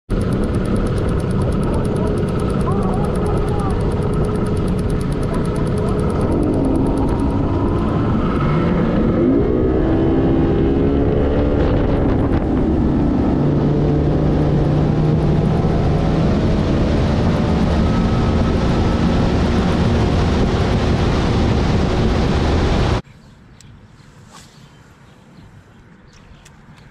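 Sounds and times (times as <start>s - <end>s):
outboard motor running: 0.1s - 23.0s
wind on microphone: 0.7s - 23.0s.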